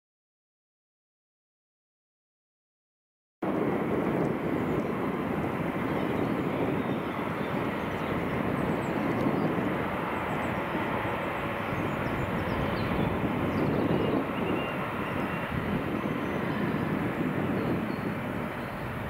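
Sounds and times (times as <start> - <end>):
jet engines running: 3.4 - 19.0.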